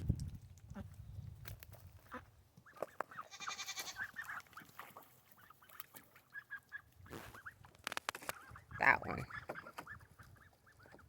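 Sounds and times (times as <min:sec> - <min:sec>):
ducks calling: 0:02.0 - 0:11.0.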